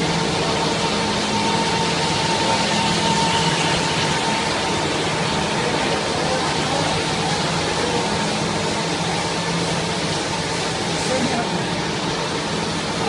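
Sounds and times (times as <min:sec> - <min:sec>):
knitting machines running: 0:00.0 - 0:13.0.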